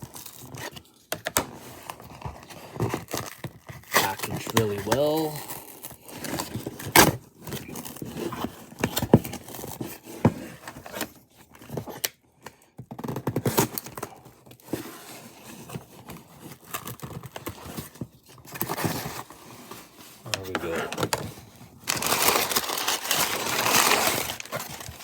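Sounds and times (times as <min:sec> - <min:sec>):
cardboard box tearing and crinkling: 0:01.4 - 0:11.1, 0:12.9 - 0:25.0.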